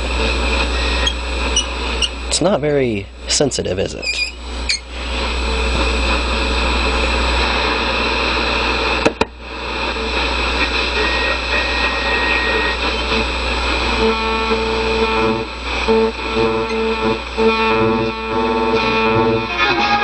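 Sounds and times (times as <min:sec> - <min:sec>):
radio static hiss: 0:00.0 - 0:20.0
radio station music: 0:00.0 - 0:20.0
sharp radio crackles: 0:00.0 - 0:20.0
steady low hum: 0:00.0 - 0:20.0.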